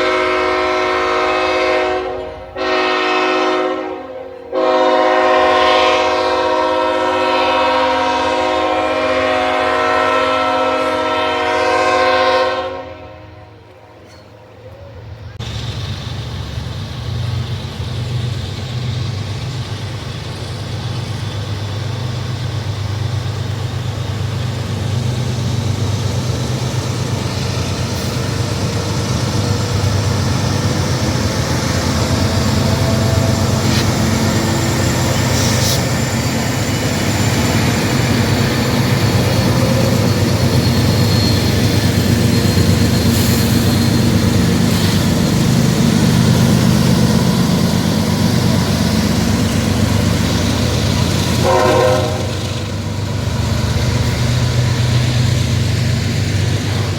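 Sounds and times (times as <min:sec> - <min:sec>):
diesel locomotive engines droning: 0:00.0 - 0:56.9.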